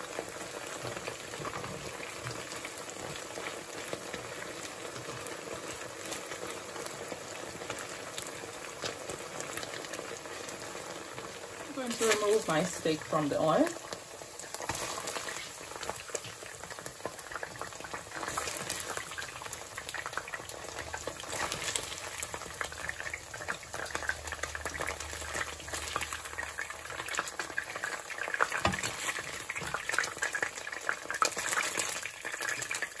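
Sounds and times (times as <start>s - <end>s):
steak sizzling in hot oil: 0.0s - 33.0s.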